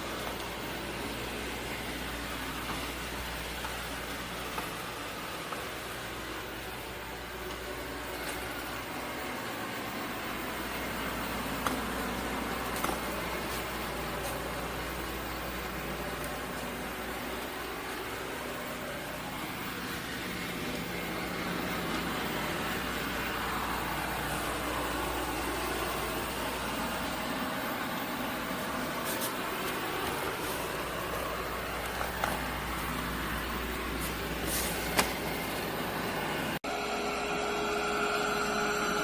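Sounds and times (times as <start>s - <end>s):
robot vacuum whirring: 0.0s - 36.2s.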